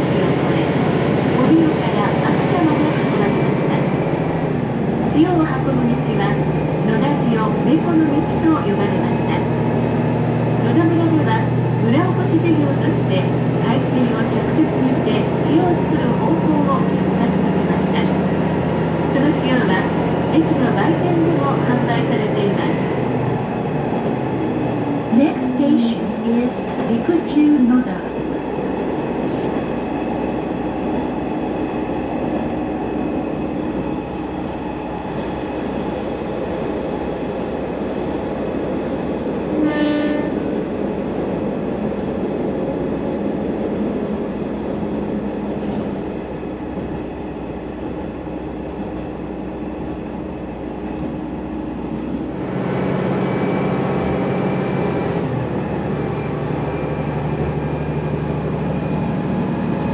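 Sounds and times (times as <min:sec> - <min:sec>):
railcar engine drone: 0:00.0 - 0:59.9.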